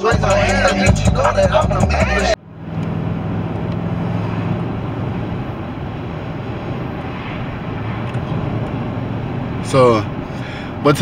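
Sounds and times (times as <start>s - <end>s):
car engine hum: 0.0s - 11.0s
tyre road noise: 0.0s - 11.0s.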